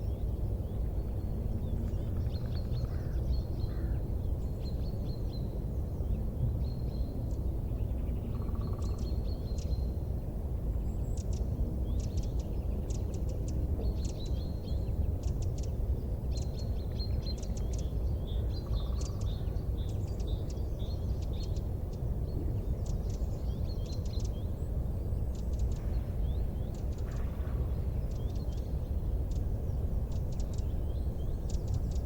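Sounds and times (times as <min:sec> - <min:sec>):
steady low rumble: 0:00.0 - 0:32.0
small birds chirping and trilling: 0:00.6 - 0:10.0, 0:10.8 - 0:32.0.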